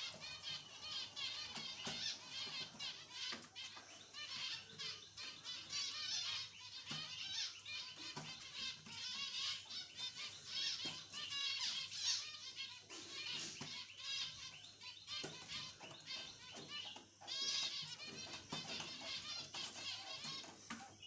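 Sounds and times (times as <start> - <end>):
finches chirping: 0.0 - 21.0.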